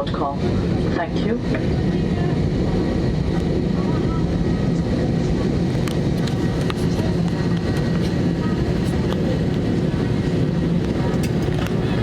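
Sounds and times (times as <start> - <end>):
aircraft cabin rumble and hum: 0.0 - 12.0.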